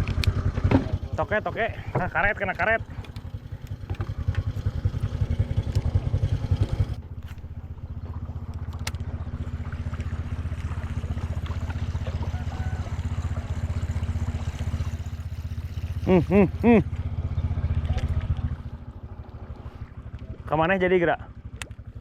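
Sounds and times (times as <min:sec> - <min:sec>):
boat engine pulsing: 0:00.0 - 0:22.0.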